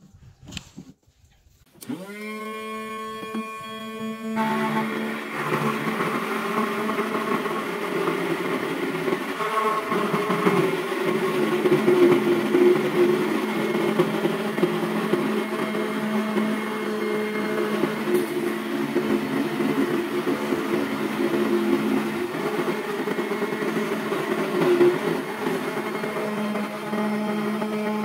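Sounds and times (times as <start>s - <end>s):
milling bit grinding sheet: 0.1s - 28.0s
motor hum: 1.8s - 28.0s.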